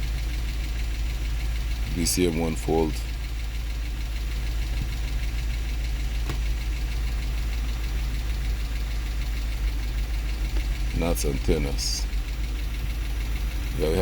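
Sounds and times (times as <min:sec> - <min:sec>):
car engine idling with ticking: 0:00.0 - 0:14.0.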